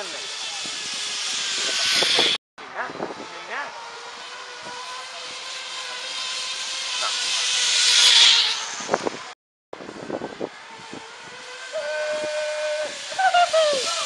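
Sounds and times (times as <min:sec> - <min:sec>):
zip-line pulley whirring: 0:00.0 - 0:14.0.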